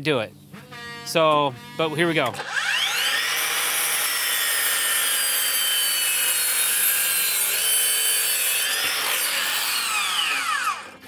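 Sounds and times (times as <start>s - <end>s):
miter saw motor whine: 0.6s - 11.0s
saw blade rasping through wood: 1.5s - 11.0s.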